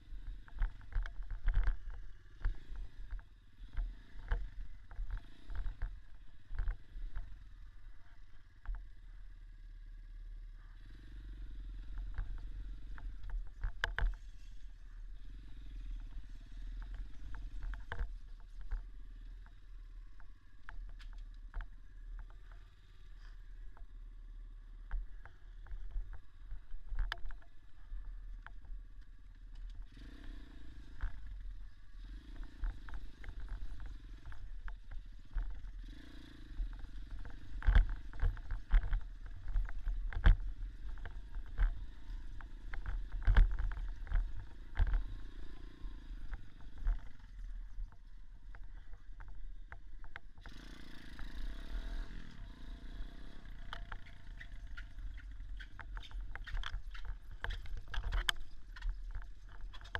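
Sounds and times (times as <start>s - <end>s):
dirt bike engine rumbling: 0.0s - 59.9s.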